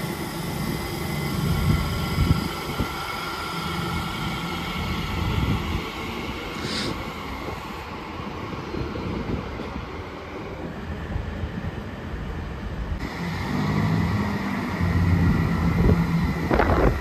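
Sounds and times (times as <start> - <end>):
diesel train engine throbbing: 0.0 - 17.0
electric train rumbling: 0.0 - 17.0.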